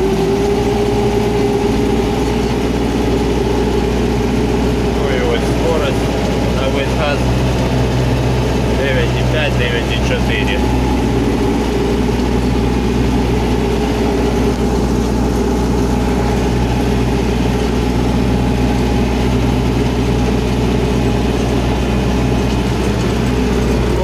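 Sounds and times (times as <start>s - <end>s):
tractor diesel engine at full throttle: 0.0s - 24.0s.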